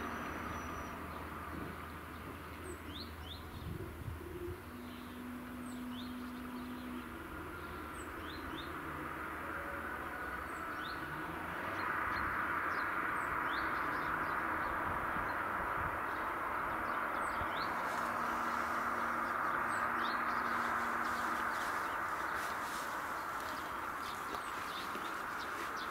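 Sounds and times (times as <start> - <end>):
small birds chirping: 0.0 - 9.3, 10.2 - 25.9
outdoor background rush: 0.0 - 25.9.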